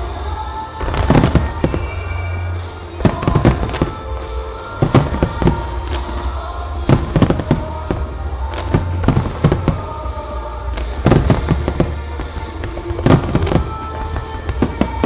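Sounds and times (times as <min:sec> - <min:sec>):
fireworks bangs: 0:00.7 - 0:15.0.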